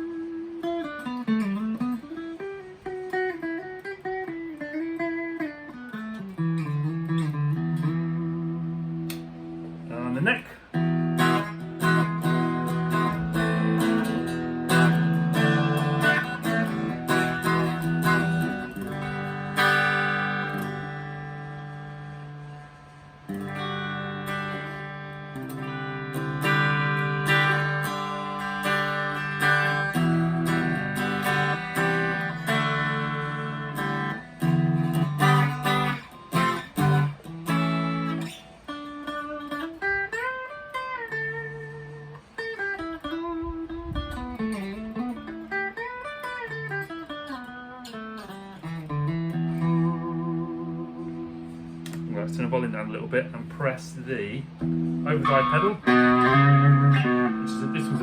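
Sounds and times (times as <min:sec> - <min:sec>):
clean electric guitar chords: 0:00.0 - 0:58.0.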